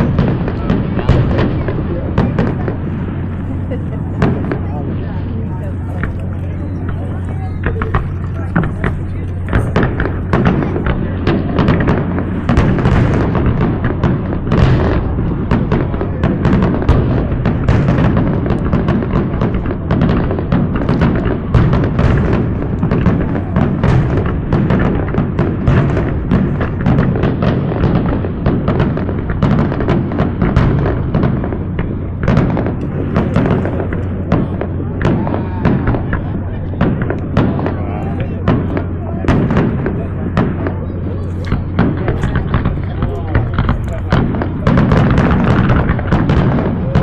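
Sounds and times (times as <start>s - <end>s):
continuous low rumble: 0.0s - 47.0s
fireworks bangs and pops: 0.0s - 47.0s.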